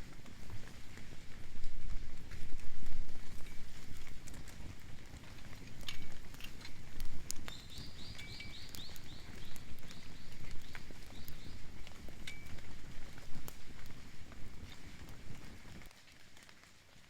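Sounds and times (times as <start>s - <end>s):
campfire crackling and popping: 0.0s - 17.0s
low rumble of rain: 0.0s - 17.0s.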